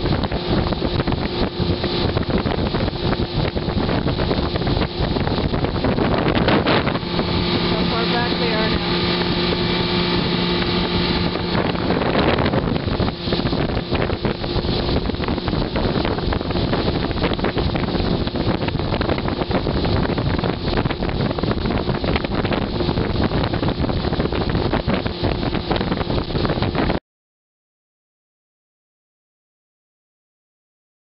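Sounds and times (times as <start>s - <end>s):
outboard motor humming: 0.0s - 27.0s
rushing water: 0.0s - 27.0s
wind buffeting microphone: 0.0s - 27.0s.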